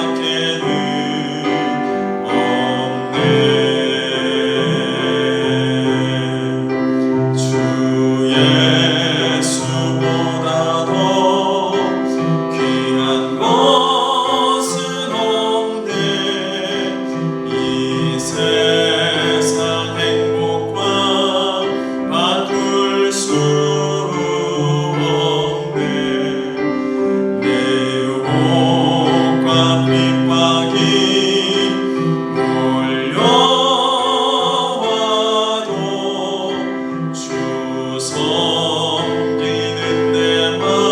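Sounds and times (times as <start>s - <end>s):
voices singing a hymn: 0.0s - 40.9s.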